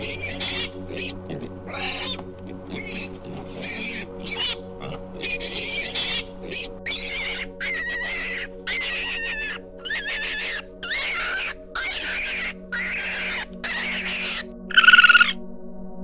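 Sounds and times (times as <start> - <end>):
piglet squealing: 0.0 - 15.4.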